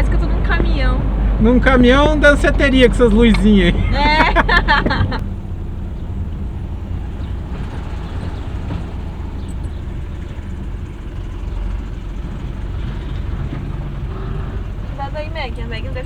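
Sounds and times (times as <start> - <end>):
engine and road rumble: 0.0 - 16.0
van rattling: 0.0 - 16.0.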